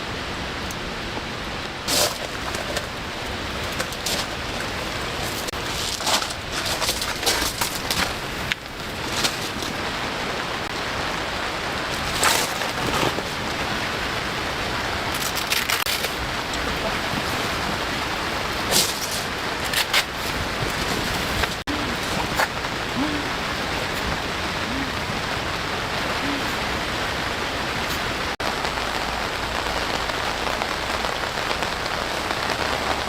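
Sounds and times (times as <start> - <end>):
rain hissing: 0.0 - 33.0.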